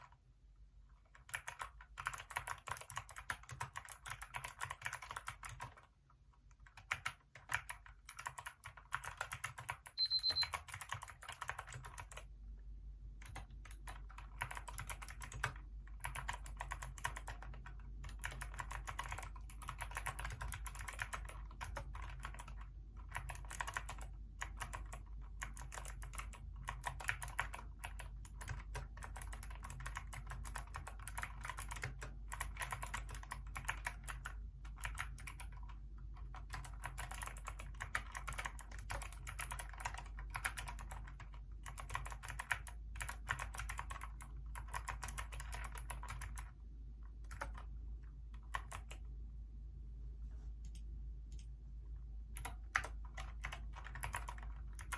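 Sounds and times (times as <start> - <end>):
mechanical keyboard typing: 1.0 - 12.3, 13.2 - 47.7, 48.3 - 49.0, 52.4 - 54.9.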